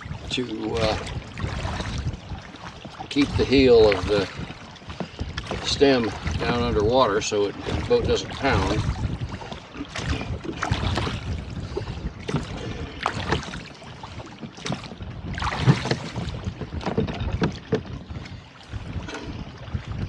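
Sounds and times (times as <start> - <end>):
water splashing against hull: 0.0 - 20.0
wind buffeting microphone: 0.0 - 20.0.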